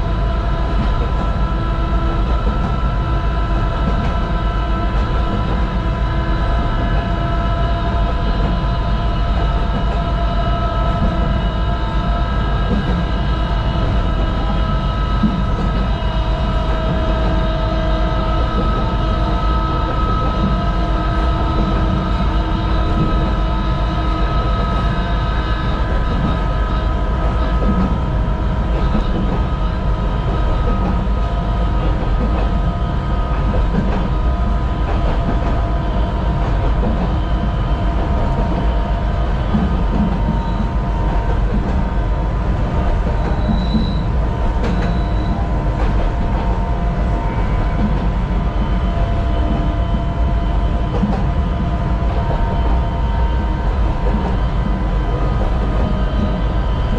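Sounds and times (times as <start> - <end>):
electric train motor whine: 0.0 - 56.9
train wheels rumbling on rail: 0.0 - 56.9.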